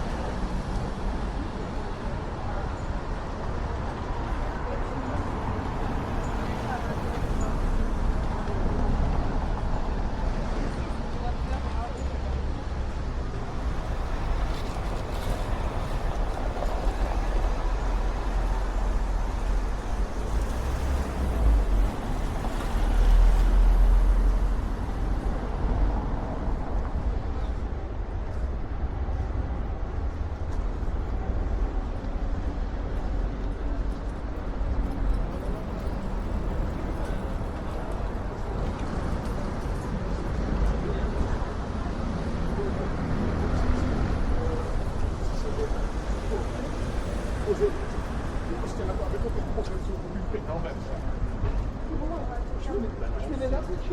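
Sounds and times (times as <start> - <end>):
traffic noise: 0.0 - 53.9
wind rumbling on microphone: 0.0 - 53.9.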